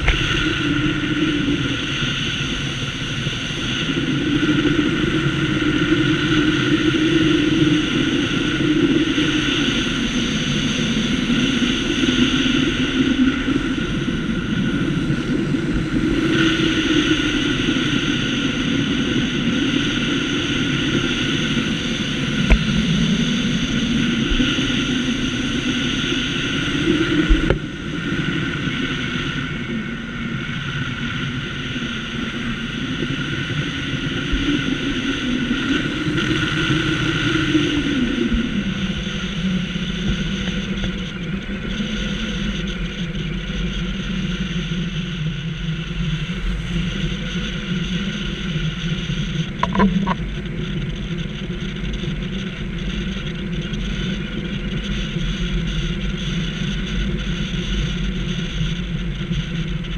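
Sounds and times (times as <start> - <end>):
engine-like drone: 0.0 - 59.9.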